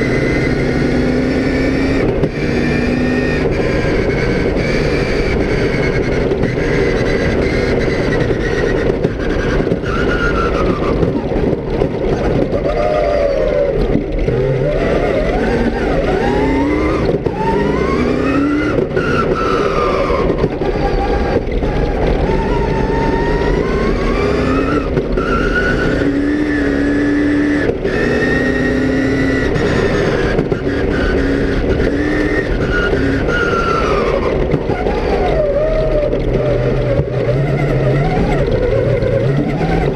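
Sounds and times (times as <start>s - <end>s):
rally car engine revving: 0.0s - 39.9s
tyres rumbling on gravel: 0.0s - 39.9s.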